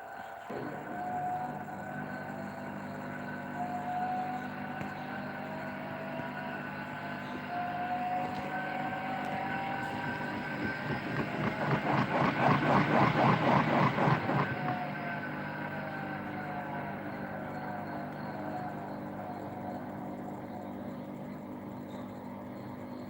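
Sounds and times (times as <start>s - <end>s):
loud rhythmic pulsing noise: 0.0s - 23.0s
washing machine humming: 0.5s - 23.0s.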